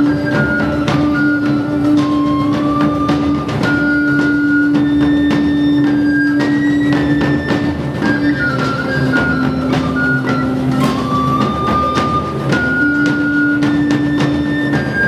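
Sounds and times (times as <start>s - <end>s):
percussion beat: 0.0s - 15.0s
stepwise melody: 0.0s - 15.0s.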